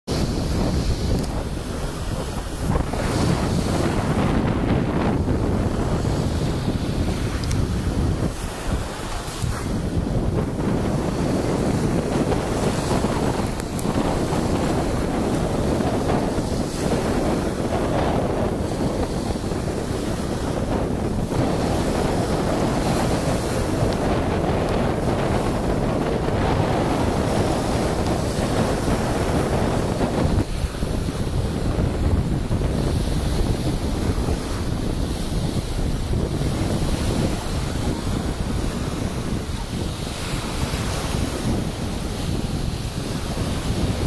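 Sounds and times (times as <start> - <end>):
sea surf washing onto beach: 0.0 - 44.0
wind buffeting microphone: 0.0 - 44.0.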